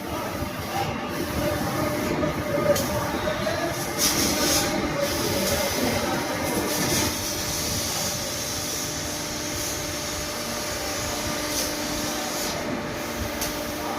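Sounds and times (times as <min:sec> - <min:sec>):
laser cutting machine hissing: 0:00.0 - 0:13.9.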